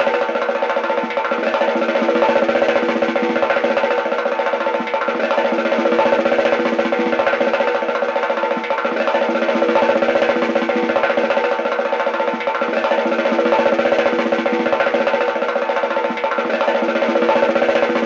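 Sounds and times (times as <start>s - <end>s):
steady held notes: 0.0s - 18.0s
wood-block percussion roll: 0.0s - 18.0s.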